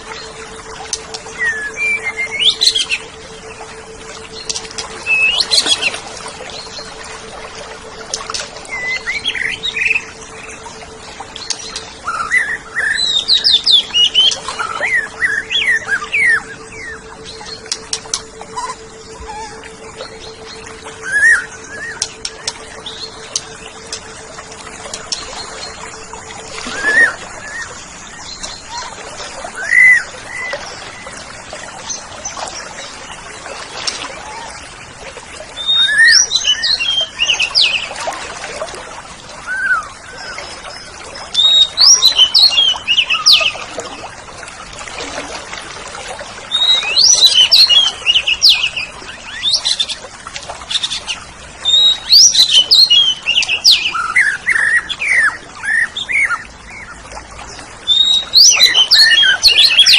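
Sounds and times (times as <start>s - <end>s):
bird singing chirps and whistles: 0.0s - 31.1s, 35.5s - 38.1s, 39.4s - 43.7s, 46.5s - 50.0s, 50.7s - 57.0s, 57.8s - 59.9s.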